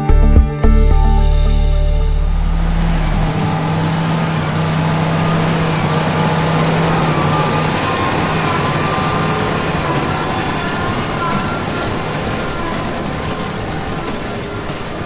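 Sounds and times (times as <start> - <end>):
baler machinery noise: 1.2 - 15.0
tractor engine hum: 1.2 - 15.0.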